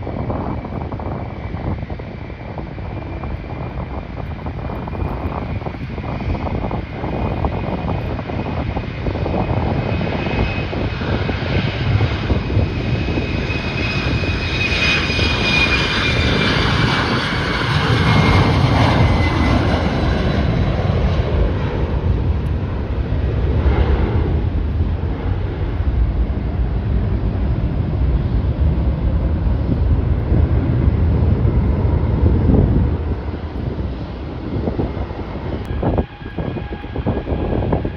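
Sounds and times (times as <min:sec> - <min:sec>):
airliner engine whine: 0:00.0 - 0:37.9
low rumble: 0:00.0 - 0:37.9
wind buffeting microphone: 0:00.0 - 0:37.9.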